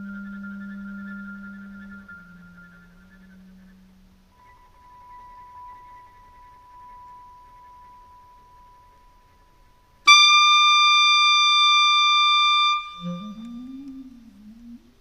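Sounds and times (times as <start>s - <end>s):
faint held tone: 0.0s - 15.0s.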